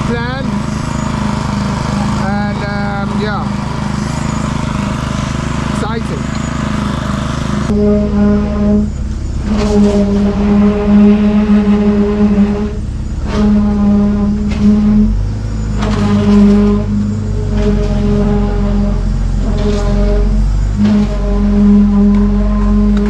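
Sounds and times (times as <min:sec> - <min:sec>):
humming tone: 0:00.0 - 0:23.0
machinery engines droning: 0:00.0 - 0:23.0.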